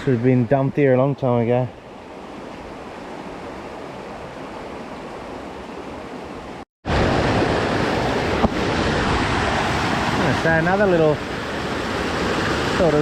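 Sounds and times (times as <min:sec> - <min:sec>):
river water rushing: 0:01.7 - 0:13.0.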